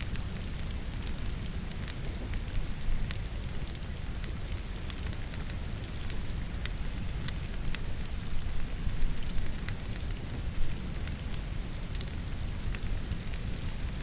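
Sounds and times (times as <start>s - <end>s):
firewood crackling and popping: 0.0s - 14.0s
rain hissing and pattering: 0.0s - 14.0s.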